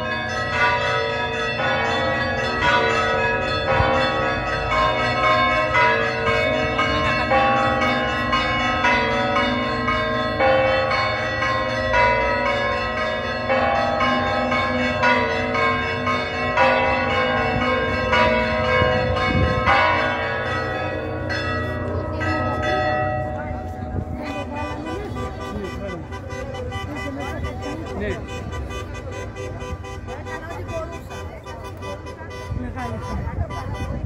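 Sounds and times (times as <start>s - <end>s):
church bells pealing: 0.0s - 34.0s.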